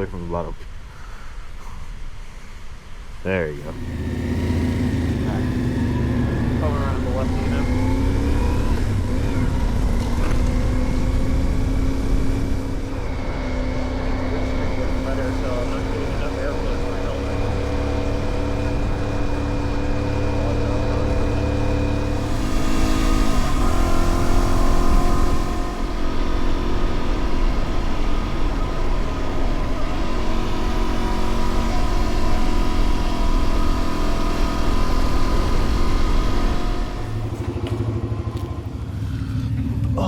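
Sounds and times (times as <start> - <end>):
motorcycle engine running: 3.6 - 40.0.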